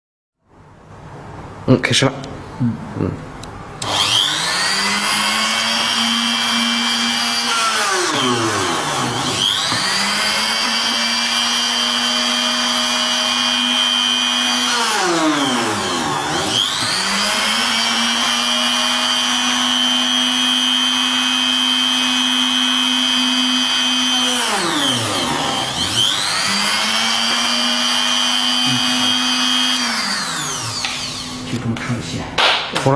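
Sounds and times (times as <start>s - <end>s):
drilling machine motor whining: 3.8s - 31.5s.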